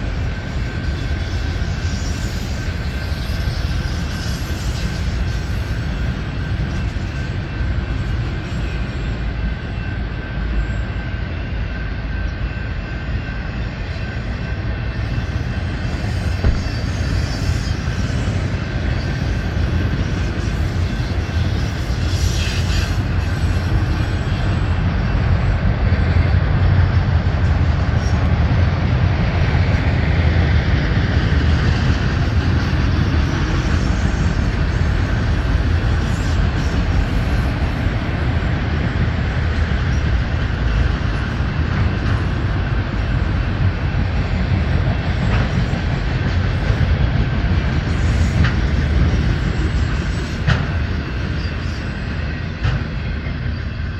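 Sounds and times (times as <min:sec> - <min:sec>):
freight cars rumbling on rails: 0:00.0 - 0:53.9.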